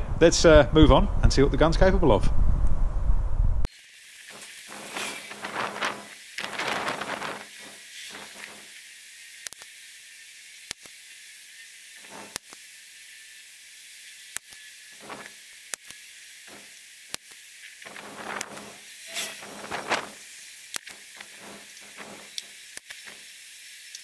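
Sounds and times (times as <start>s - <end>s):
heavy rain hiss: 3.7s - 14.2s, 14.9s - 24.0s.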